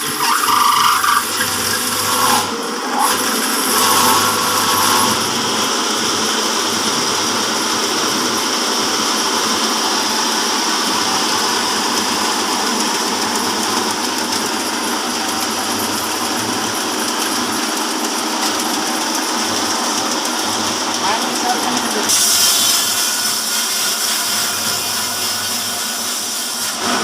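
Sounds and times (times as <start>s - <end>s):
band saw cutting a log: 0.0s - 27.0s
electric motor running: 0.0s - 27.0s.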